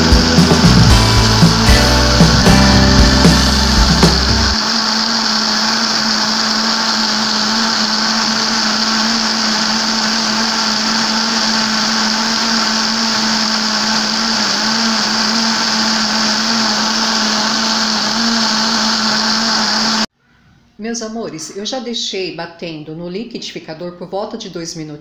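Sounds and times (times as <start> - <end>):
blender running: 0.0 - 20.1.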